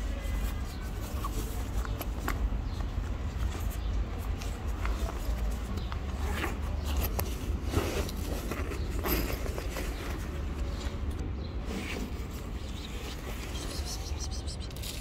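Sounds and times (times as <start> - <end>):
rustling and clicks of handling: 0.2 - 15.0.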